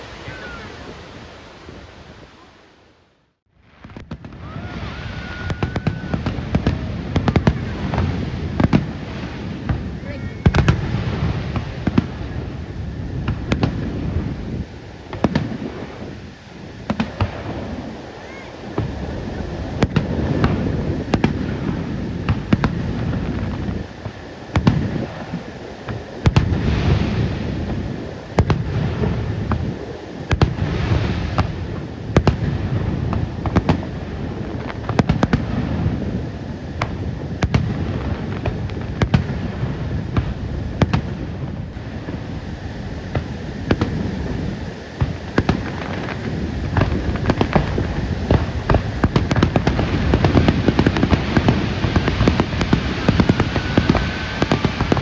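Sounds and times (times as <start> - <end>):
fireworks bursting in bangs: 3.6 - 55.0.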